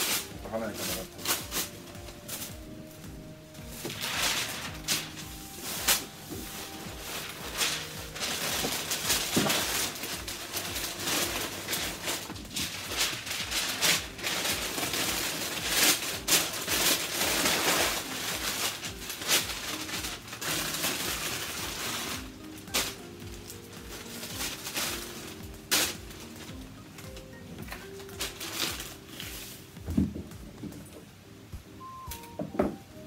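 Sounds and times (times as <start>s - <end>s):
wrapping paper rustling: 0.0s - 30.5s
background music: 0.0s - 33.0s.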